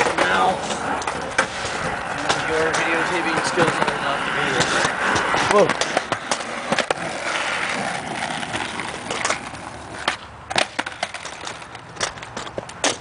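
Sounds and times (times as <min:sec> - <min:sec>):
skateboard clacking on street: 0:00.0 - 0:13.0
skateboard wheels rolling on asphalt: 0:00.0 - 0:13.0.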